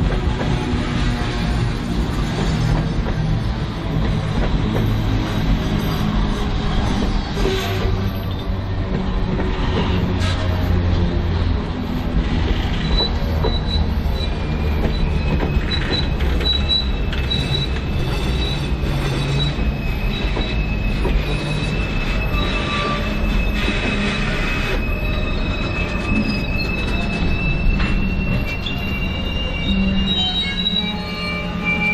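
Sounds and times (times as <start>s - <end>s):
train cars rumbling past: 0.0s - 31.9s
wheels squealing: 4.5s - 31.9s.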